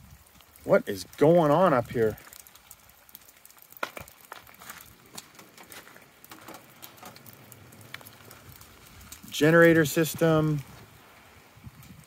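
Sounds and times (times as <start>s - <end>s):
light rain drops pattering: 0.0s - 12.0s.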